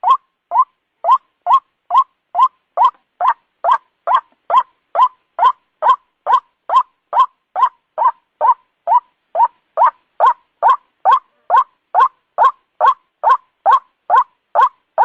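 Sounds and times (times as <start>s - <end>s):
bird croaking call: 0.0s - 15.0s.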